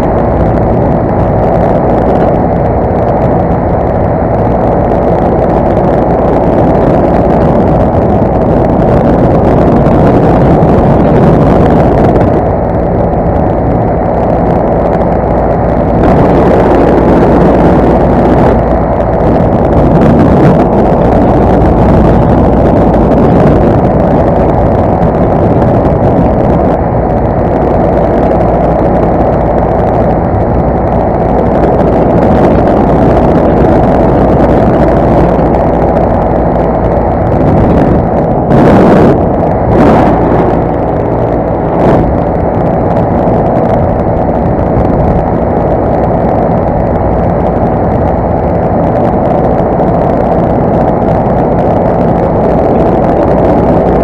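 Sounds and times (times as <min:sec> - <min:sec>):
paramotor engine and propeller drone: 0:00.0 - 0:54.0.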